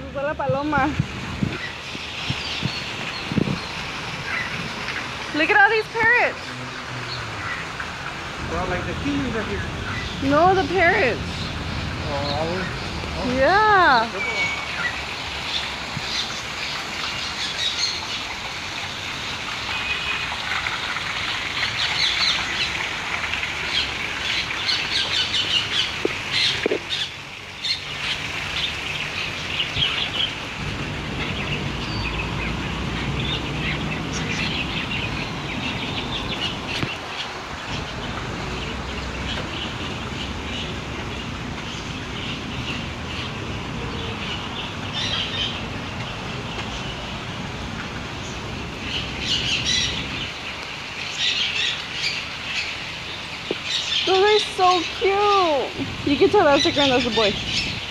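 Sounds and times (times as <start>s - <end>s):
caged birds chirping: 0.0s - 18.5s, 19.2s - 57.9s.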